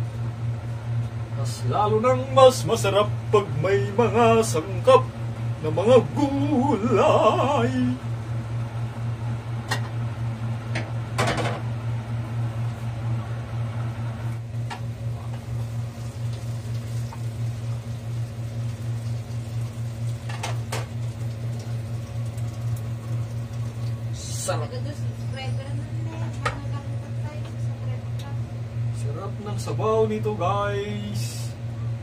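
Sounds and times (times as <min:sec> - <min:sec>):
electric cooker humming: 0:00.0 - 0:32.0.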